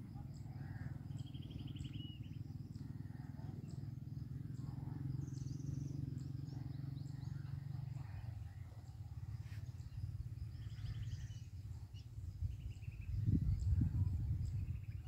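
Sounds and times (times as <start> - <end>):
small birds trilling and chirping: 0.0 - 15.0
steady low rumble: 0.0 - 15.0.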